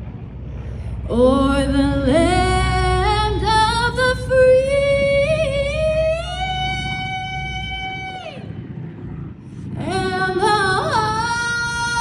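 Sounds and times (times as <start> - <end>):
low drone of aircraft engines: 0.0 - 12.0
woman singing over loudspeaker: 1.1 - 8.5, 9.7 - 12.0.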